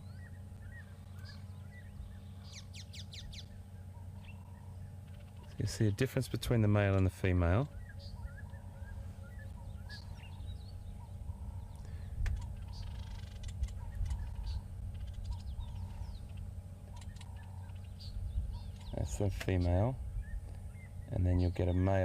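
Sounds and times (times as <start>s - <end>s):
low steady rumble: 0.0s - 22.0s
weaver birds chirping and chattering: 0.0s - 22.0s.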